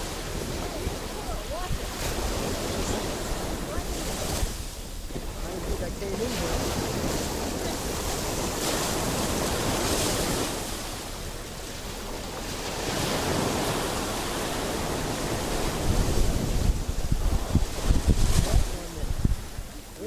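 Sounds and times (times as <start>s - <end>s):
sea surf washing in: 0.0s - 20.0s
wind buffeting microphone: 0.0s - 20.0s.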